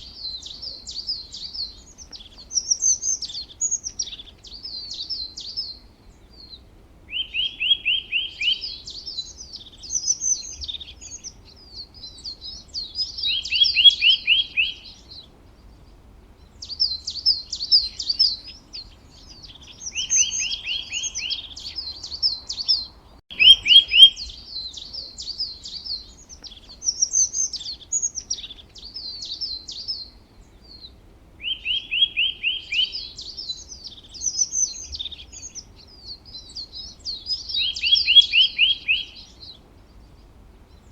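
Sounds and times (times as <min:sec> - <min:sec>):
birds singing: 0:00.0 - 0:40.9.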